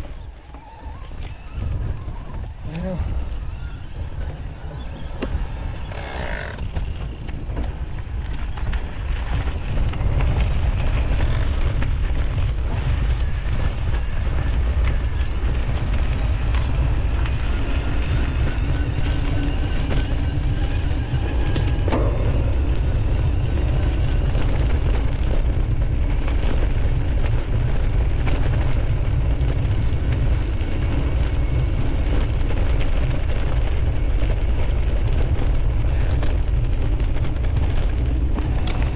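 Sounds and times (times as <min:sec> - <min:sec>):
bike rattling on rough ground: 0:00.0 - 0:38.9
wind buffeting microphone: 0:00.0 - 0:38.9.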